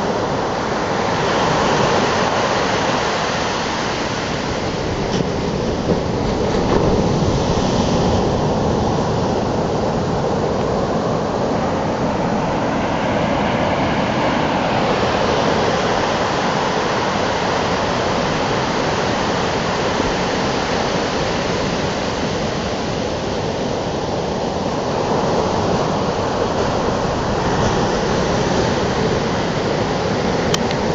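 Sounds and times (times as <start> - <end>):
surf breaking on beach: 0.2 - 30.9.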